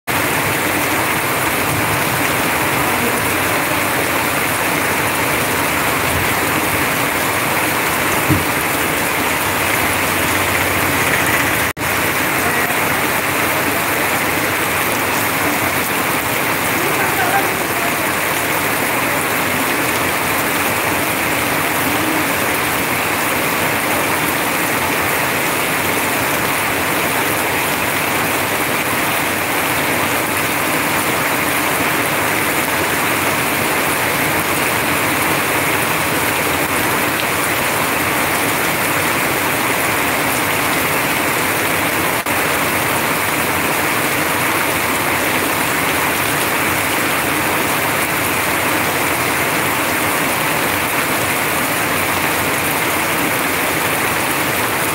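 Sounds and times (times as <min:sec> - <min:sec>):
heavy rain: 0:00.0 - 0:54.9
runoff pouring and splashing: 0:00.1 - 0:54.9.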